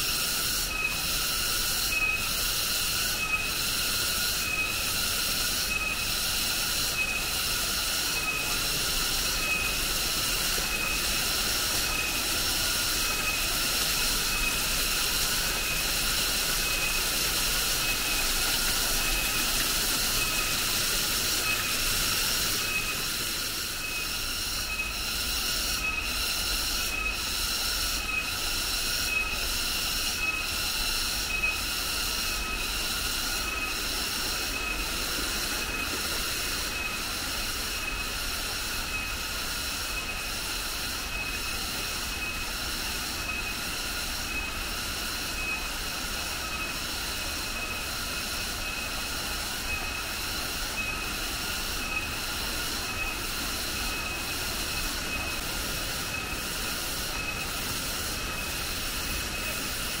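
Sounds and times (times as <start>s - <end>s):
insect chorus pulsing drone: 0.0s - 60.0s.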